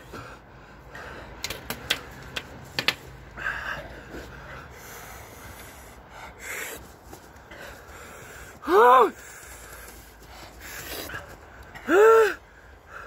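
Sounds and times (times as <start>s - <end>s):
men breathing hard: 0.0s - 2.2s, 3.1s - 13.0s.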